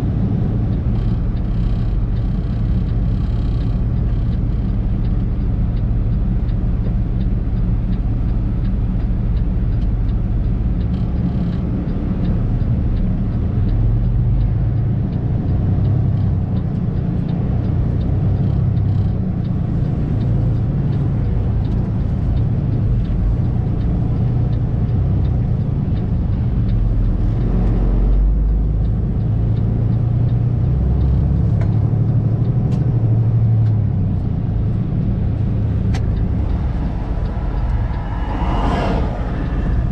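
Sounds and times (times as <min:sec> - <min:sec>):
diesel truck engine rumbling: 0:00.0 - 0:39.9.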